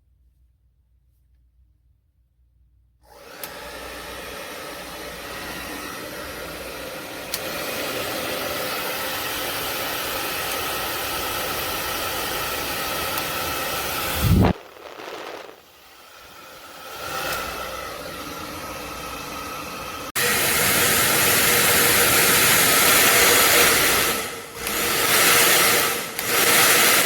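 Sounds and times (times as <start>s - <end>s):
hair dryer running: 3.0s - 27.0s.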